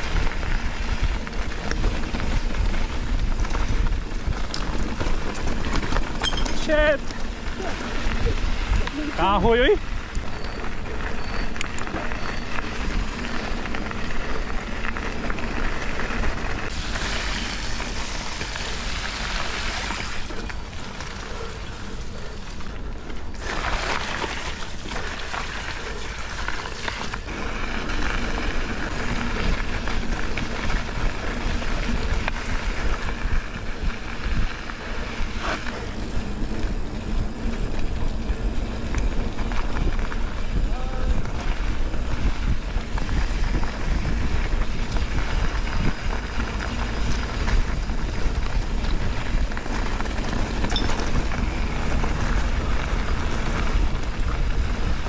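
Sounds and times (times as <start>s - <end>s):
wind rushing on microphone: 0.0s - 55.0s.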